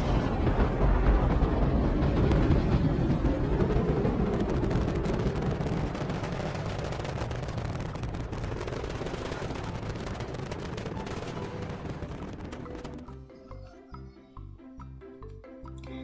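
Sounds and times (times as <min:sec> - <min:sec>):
crackling rocket engine rumble: 0:00.0 - 0:13.6.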